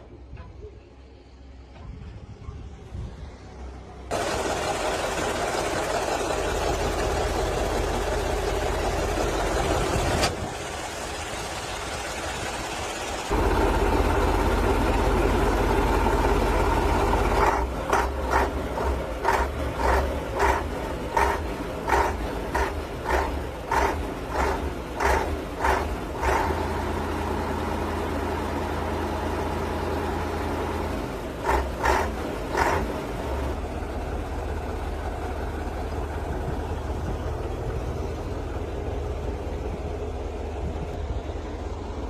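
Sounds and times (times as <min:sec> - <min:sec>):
truck engine idling: 0:02.9 - 0:42.0.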